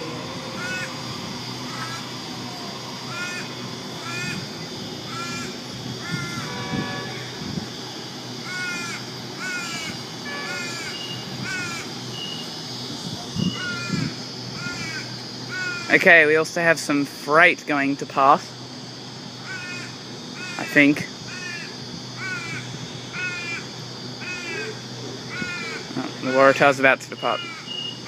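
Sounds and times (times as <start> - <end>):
bird calling: 0.0 - 7.4, 8.3 - 16.0, 19.4 - 28.0
steady low hum: 0.0 - 28.0.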